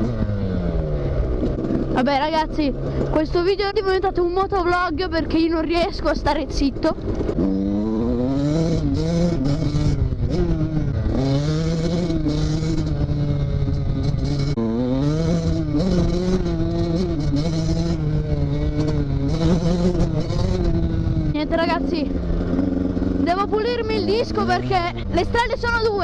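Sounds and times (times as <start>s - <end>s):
motocross engine revving: 0.0s - 26.0s.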